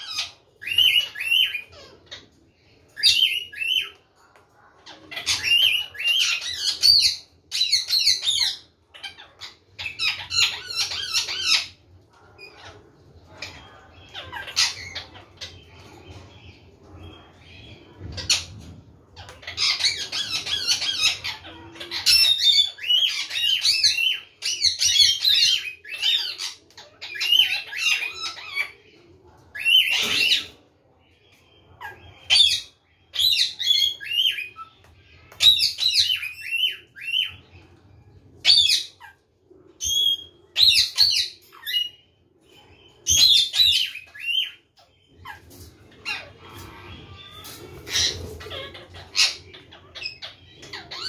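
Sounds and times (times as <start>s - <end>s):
parakeets chattering and squawking: 0.0s - 51.0s.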